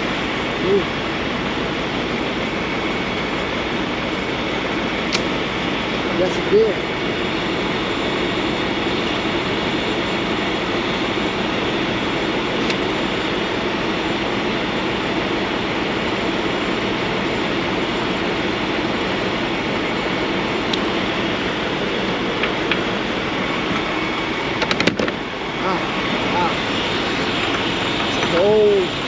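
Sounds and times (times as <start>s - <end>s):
diesel trucks idling: 0.0s - 29.0s.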